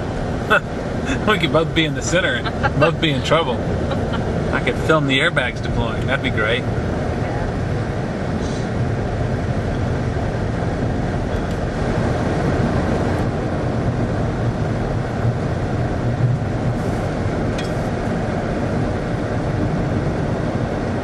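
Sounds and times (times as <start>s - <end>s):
car driving inside cabin: 0.0s - 21.0s.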